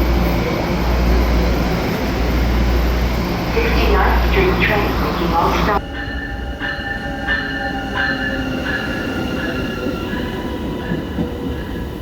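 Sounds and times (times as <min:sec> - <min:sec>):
low train rumble: 0:00.0 - 0:12.0.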